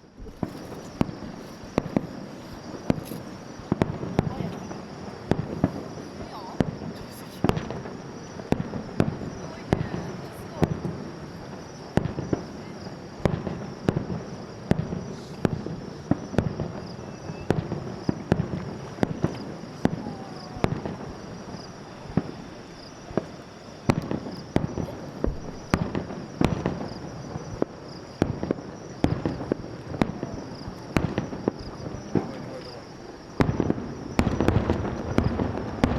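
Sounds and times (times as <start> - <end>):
fireworks bangs: 0.0 - 35.9.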